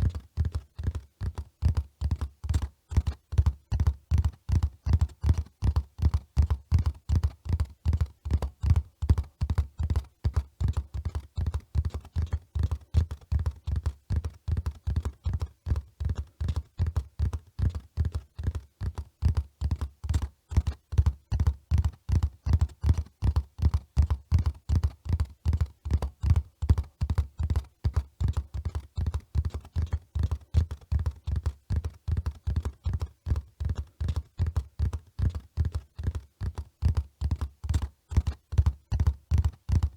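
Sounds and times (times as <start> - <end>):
horse hoofbeats: 0.0 - 39.9.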